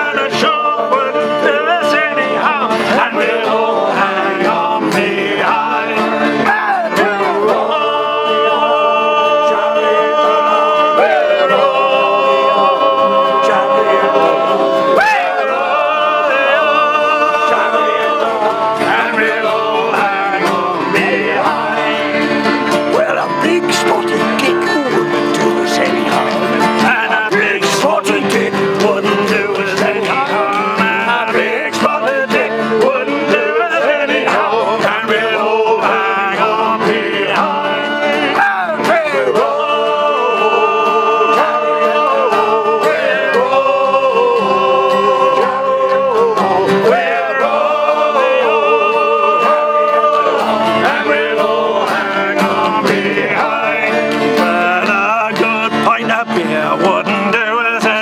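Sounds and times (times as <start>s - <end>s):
acoustic guitar: 0.0s - 58.0s
men singing in chorus: 0.0s - 58.0s
ukulele: 0.0s - 58.0s.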